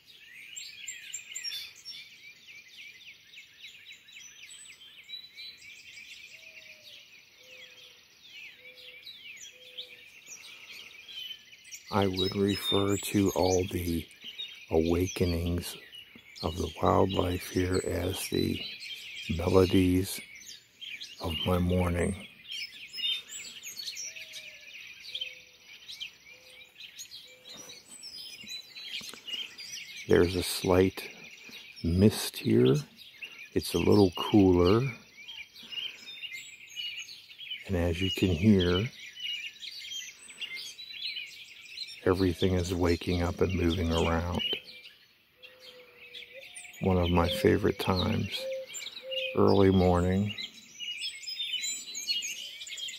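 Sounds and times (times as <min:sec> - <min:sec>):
birds singing: 0:00.0 - 0:52.9.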